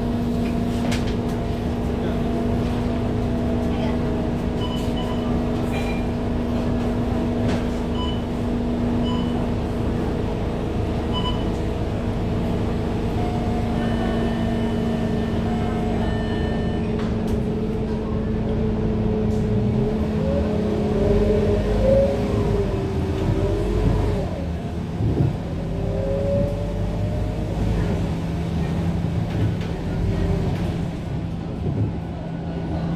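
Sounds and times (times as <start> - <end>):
diesel bus engine: 0.0 - 32.9.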